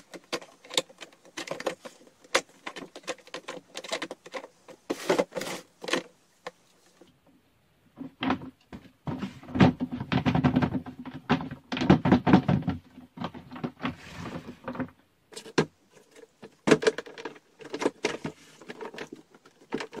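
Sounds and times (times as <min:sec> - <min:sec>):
plastic basket clacking: 0:00.0 - 0:07.1, 0:08.0 - 0:20.0.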